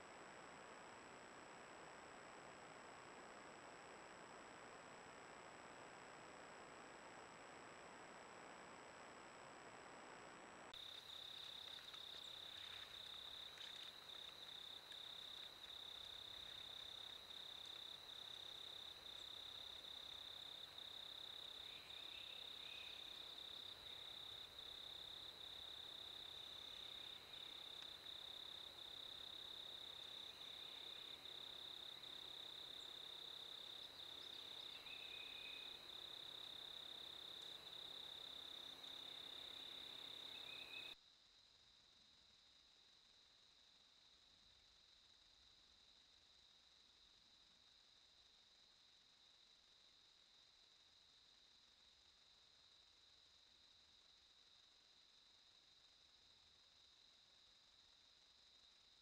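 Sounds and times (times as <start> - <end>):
faint outdoor ambience: 0.0 - 59.0.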